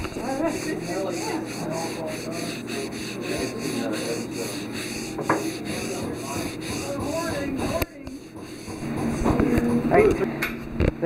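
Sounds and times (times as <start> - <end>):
metal scraping and rubbing: 0.0 - 10.3.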